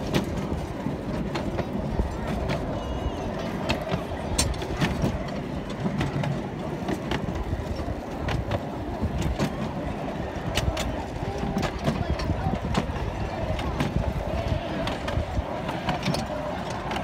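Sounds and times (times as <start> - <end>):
track clicks and knocks: 0.0 - 17.0
train carriages rumbling on track: 0.0 - 17.0.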